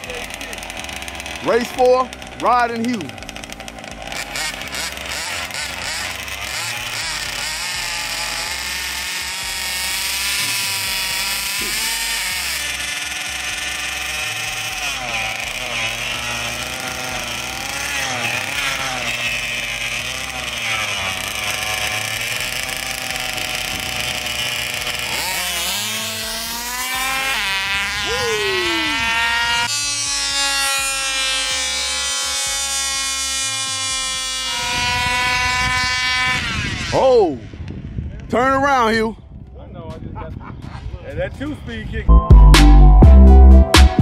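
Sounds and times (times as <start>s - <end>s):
small two-stroke engines revving: 0.0s - 39.0s.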